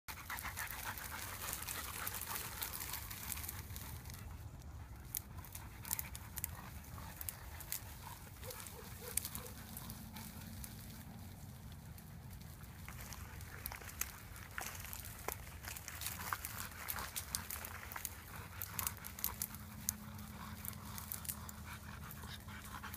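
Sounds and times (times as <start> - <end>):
stalks crackling under dogs' feet: 0.1 - 22.9.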